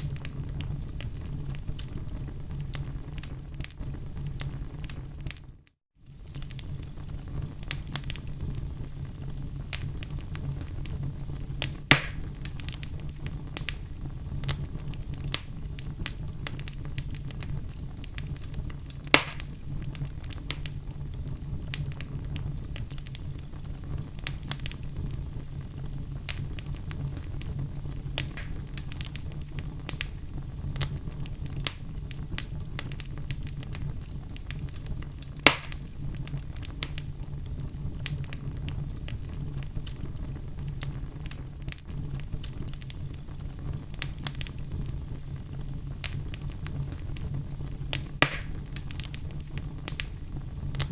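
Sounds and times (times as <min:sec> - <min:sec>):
loud fire snaps: 0:00.0 - 0:50.9
low fire rumble: 0:00.0 - 0:50.9
wood fire crackling and popping: 0:00.0 - 0:50.9.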